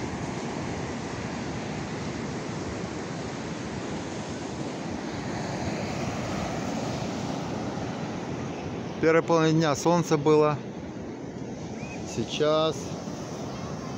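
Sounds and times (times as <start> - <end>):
surf washing onto beach: 0.0 - 13.9.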